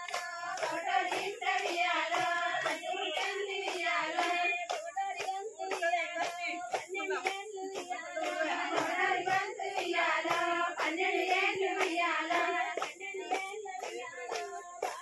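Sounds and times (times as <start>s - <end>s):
rhythmic hand clapping: 0.0s - 15.0s
women singing folk song: 0.0s - 15.0s.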